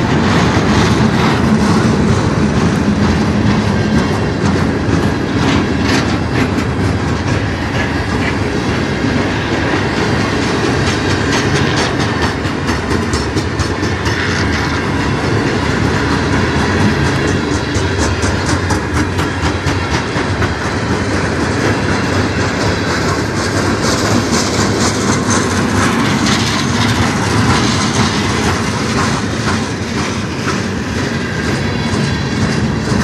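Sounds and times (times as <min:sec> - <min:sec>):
clickety-clack over rail joints: 0:00.0 - 0:33.0
train wheels rumbling on rails: 0:00.0 - 0:33.0.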